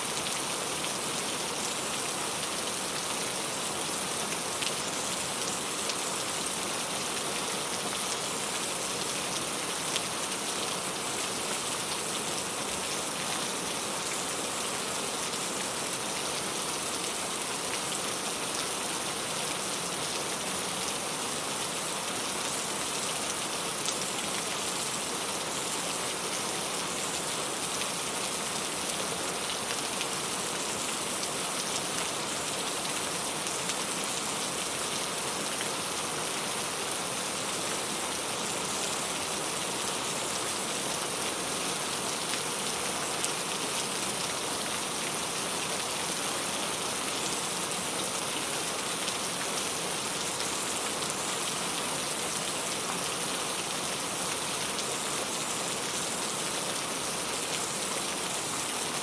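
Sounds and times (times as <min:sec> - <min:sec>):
rain pattering on a surface: 0:00.1 - 0:59.0.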